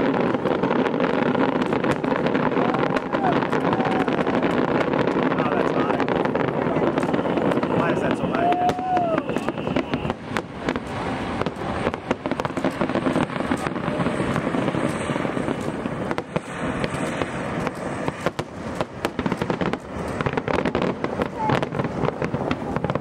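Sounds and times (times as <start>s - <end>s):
fireworks booming and cracking: 0.0s - 23.0s.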